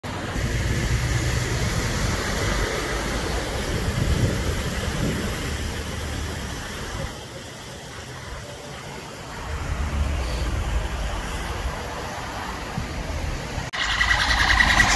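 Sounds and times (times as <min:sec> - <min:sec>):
vehicle engines running: 0:00.0 - 0:14.9
water splashing from tyres: 0:00.1 - 0:14.9.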